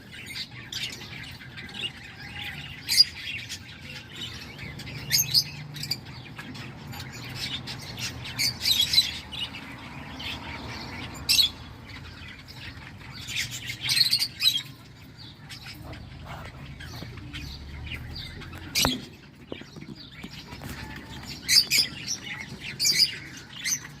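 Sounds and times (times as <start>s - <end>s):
cockatiels chirping: 0.0s - 24.0s.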